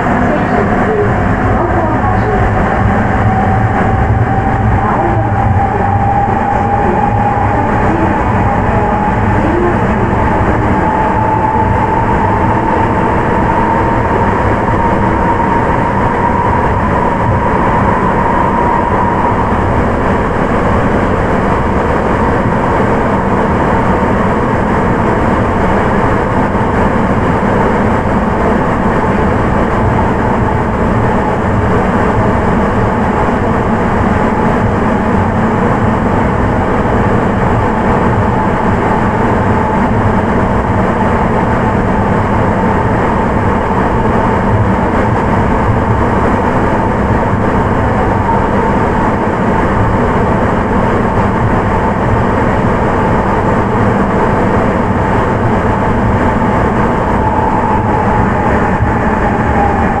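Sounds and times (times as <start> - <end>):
train running rumble: 0.0 - 60.0.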